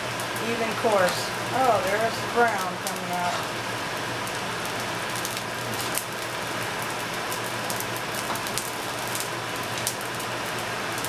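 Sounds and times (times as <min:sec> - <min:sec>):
food sizzling and crackling in butter: 0:00.0 - 0:11.0.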